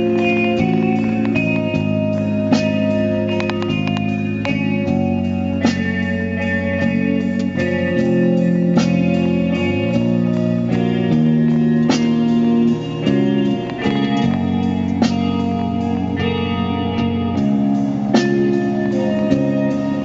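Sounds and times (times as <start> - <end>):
guitar: 0.0 - 20.0.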